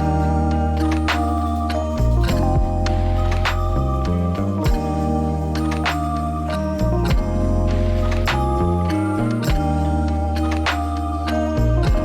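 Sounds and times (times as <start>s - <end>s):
gentle keyboard music: 0.0s - 12.0s.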